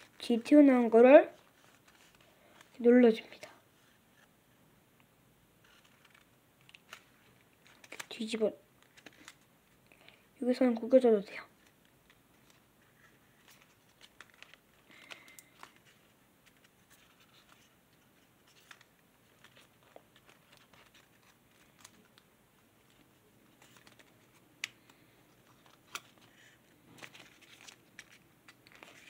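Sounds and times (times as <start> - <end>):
paper crinkling being folded: 1.2 - 3.9, 5.6 - 9.8, 11.4 - 29.0
paper crackles: 1.4 - 3.5, 5.6 - 9.4, 11.6 - 29.0.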